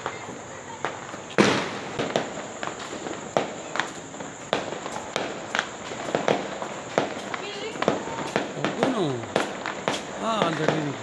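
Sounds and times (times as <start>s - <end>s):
firecrackers crackling: 0.0s - 11.0s
fireworks bangs and pops: 0.0s - 11.0s.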